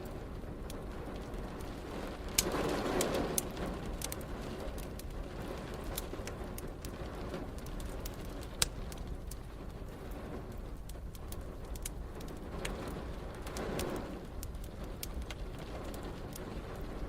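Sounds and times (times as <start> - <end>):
rain hissing: 0.0 - 17.0
wood fire crackling: 0.0 - 17.0.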